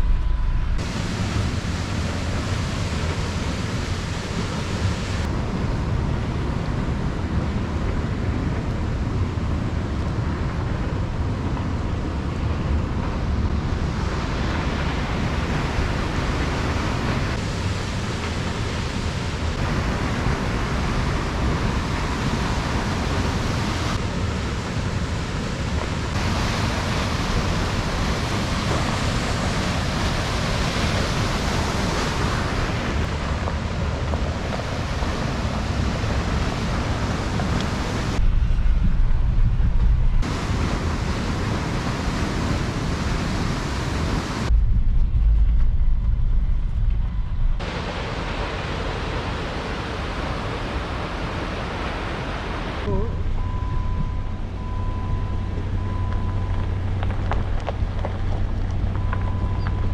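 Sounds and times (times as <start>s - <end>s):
river water rushing: 0.0s - 38.3s, 40.2s - 44.5s, 47.6s - 57.0s
wind buffeting microphone: 0.0s - 52.5s.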